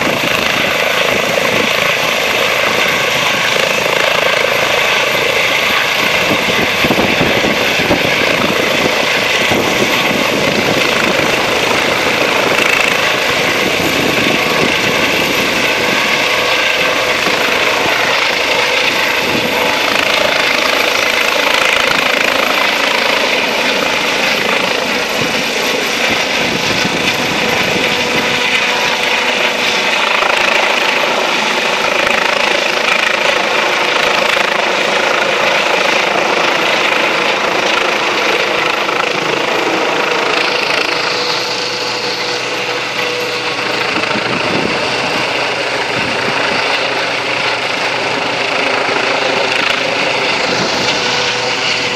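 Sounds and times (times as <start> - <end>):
helicopter turbine and rotor noise: 0.0 - 51.9.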